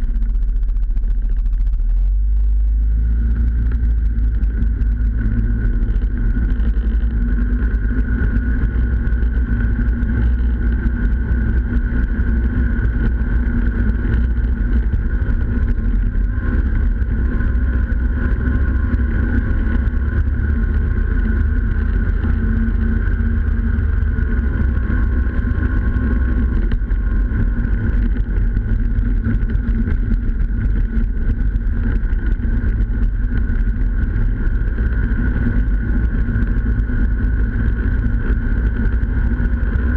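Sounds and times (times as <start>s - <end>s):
snowmobile engine and track rumble: 0.0s - 39.9s.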